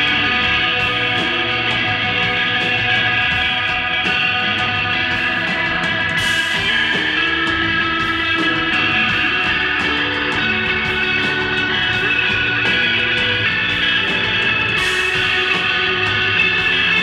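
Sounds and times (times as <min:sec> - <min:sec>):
bass and drums: 0:00.0 - 0:17.0
electric guitar sustained notes: 0:00.0 - 0:17.0.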